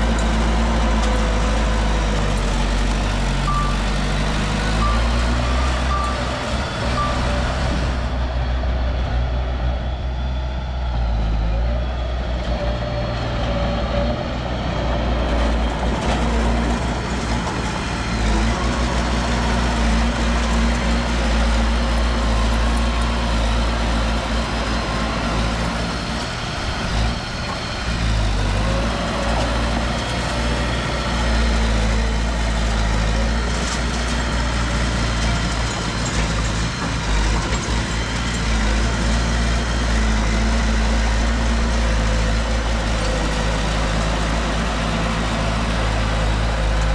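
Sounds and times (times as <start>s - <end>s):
heavy machinery diesel engine: 0.0s - 46.9s.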